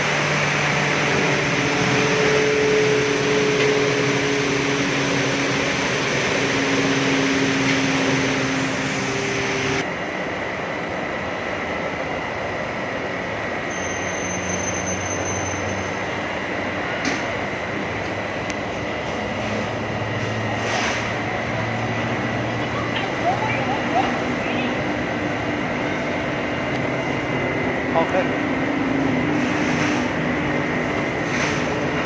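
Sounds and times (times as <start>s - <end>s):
dull machine noise with high tone: 0.0s - 32.0s
furnace machine hum: 0.0s - 32.0s.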